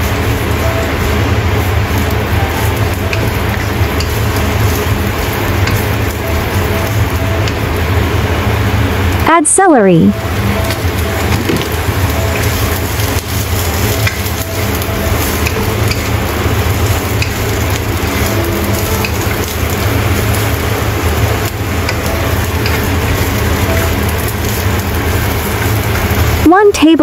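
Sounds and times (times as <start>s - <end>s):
vegetables sizzling in a wok: 0.0s - 9.4s, 10.1s - 27.0s.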